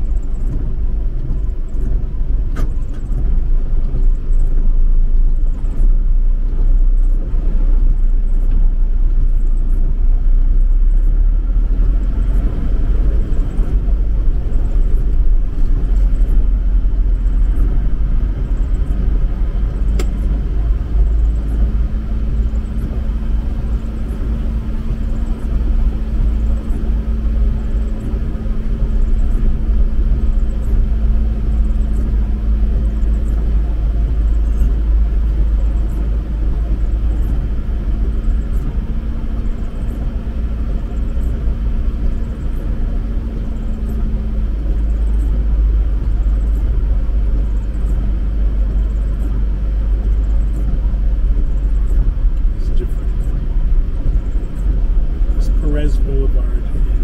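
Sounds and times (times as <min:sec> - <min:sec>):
truck cab rumble: 0:00.0 - 0:57.0.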